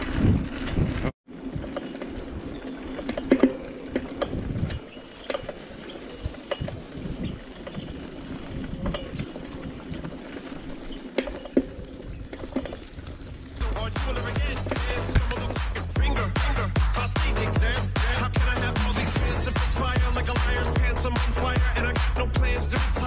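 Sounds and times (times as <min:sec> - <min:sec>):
bike rattling and knocking: 0:00.0 - 0:23.0
bike tyre noise on road: 0:00.0 - 0:23.0.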